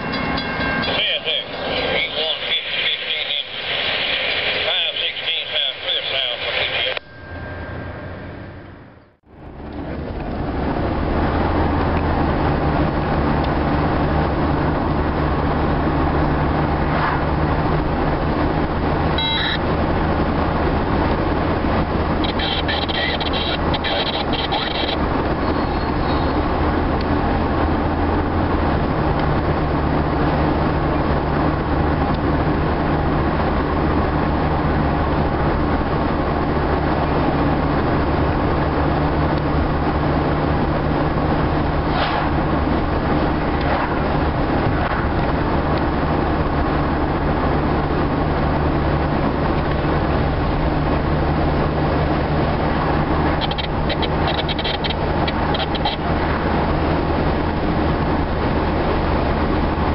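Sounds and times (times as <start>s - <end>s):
car cabin road and engine noise: 0.0s - 59.9s
low hum: 0.0s - 59.9s.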